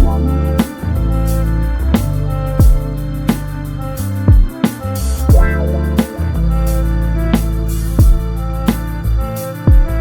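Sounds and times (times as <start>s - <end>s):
deep drum beat: 0.0s - 9.0s, 9.7s - 10.0s
music with held low notes: 0.0s - 10.0s.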